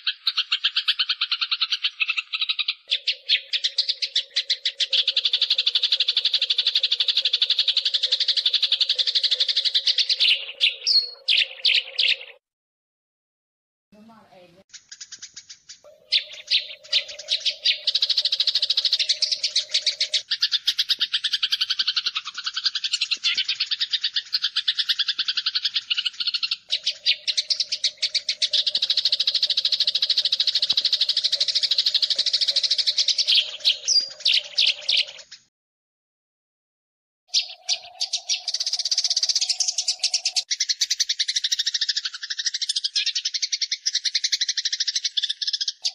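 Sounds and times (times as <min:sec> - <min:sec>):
sparrows chattering chirps: 0:00.0 - 0:12.4, 0:14.0 - 0:35.5, 0:37.3 - 0:45.9.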